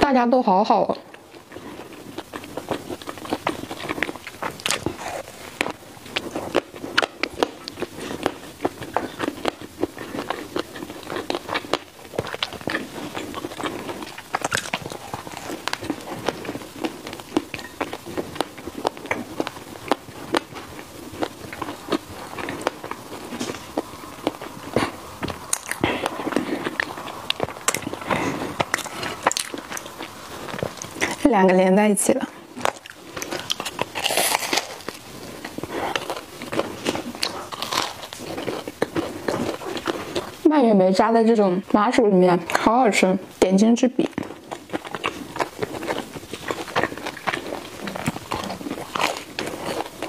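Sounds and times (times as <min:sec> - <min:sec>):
wet chewing: 0:00.5 - 0:50.0
biting into bread roll: 0:01.4 - 0:31.2, 0:32.6 - 0:40.4, 0:44.1 - 0:50.0.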